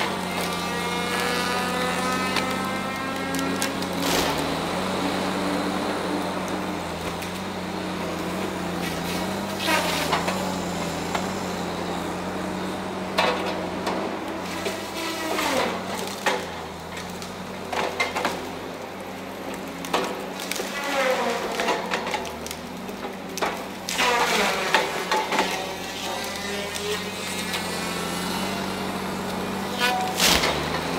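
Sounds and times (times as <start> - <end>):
diesel engine running: 0.0 - 30.9
trees cracking and crashing down: 0.0 - 30.9.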